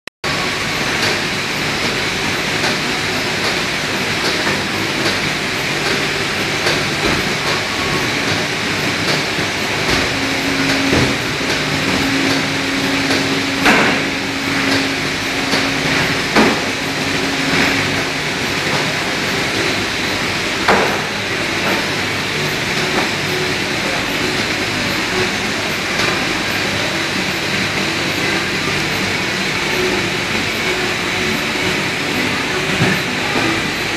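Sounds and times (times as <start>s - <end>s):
steady hum: 0.2s - 33.9s
machine clatter: 0.3s - 33.9s.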